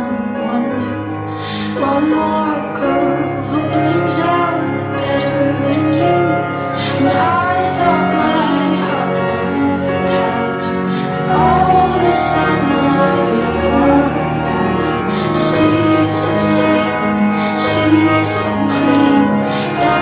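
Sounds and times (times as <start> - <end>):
woman singing over sustained chords: 0.0 - 20.0.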